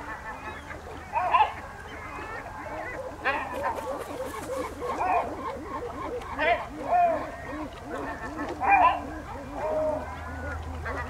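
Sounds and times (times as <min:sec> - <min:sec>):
flock of birds honking: 0:00.0 - 0:11.0.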